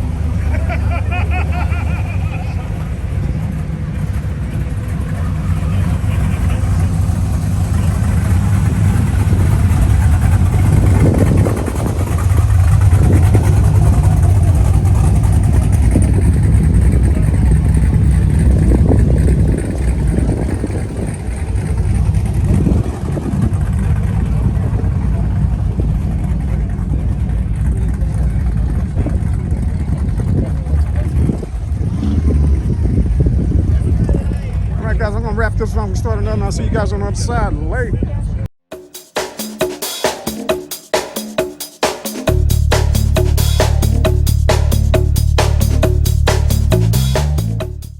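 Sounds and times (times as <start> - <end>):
car engine idling: 0.0 - 37.7, 42.3 - 47.9.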